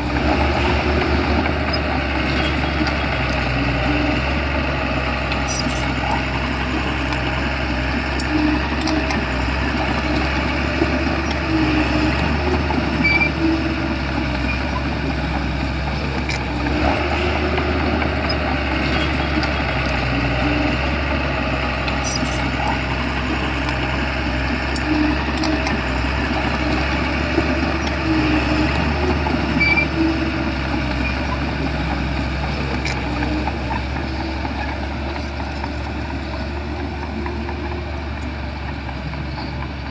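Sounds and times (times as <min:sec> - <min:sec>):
bulldozer diesel engine running: 0:00.0 - 0:39.9
mechanical squeaks and clicks: 0:00.2 - 0:04.4, 0:05.2 - 0:21.1, 0:21.8 - 0:38.4.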